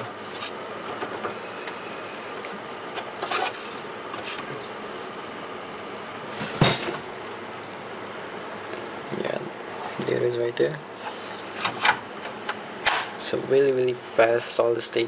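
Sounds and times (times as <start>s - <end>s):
computer fans whirring: 0.0s - 15.0s.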